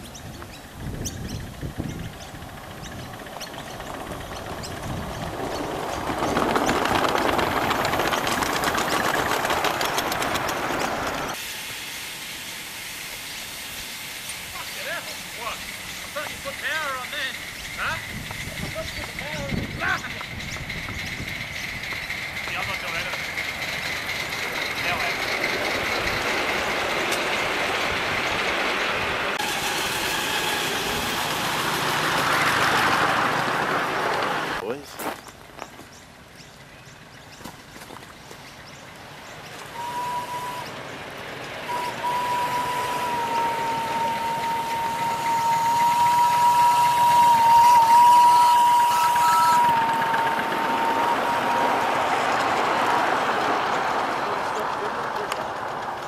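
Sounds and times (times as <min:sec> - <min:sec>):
steam locomotive running: 0:00.0 - 0:34.8, 0:38.9 - 0:56.0
train wheels rumbling on rails: 0:00.0 - 0:36.3, 0:37.0 - 0:56.0.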